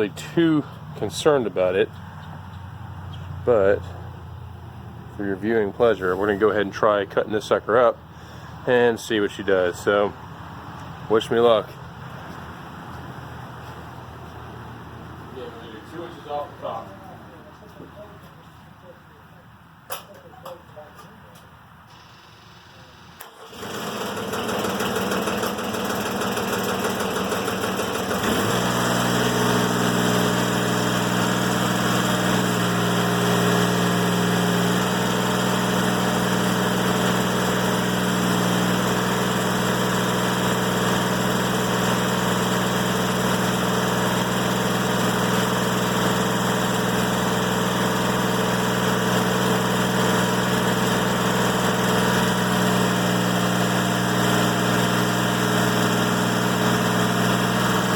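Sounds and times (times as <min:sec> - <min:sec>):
diesel engine running: 0:00.0 - 0:19.9, 0:21.2 - 0:57.9.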